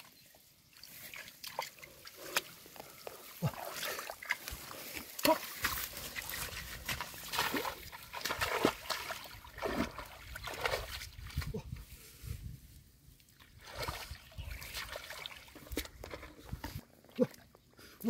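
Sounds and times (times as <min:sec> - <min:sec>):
muddy water splashing: 0:00.0 - 0:11.8, 0:13.2 - 0:18.0.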